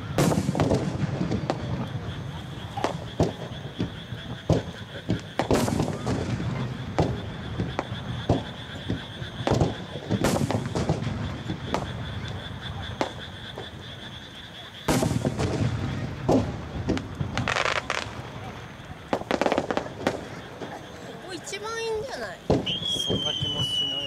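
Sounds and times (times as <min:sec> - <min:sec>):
firework shells bursting: 0:00.0 - 0:13.8, 0:14.9 - 0:20.8, 0:22.4 - 0:24.0.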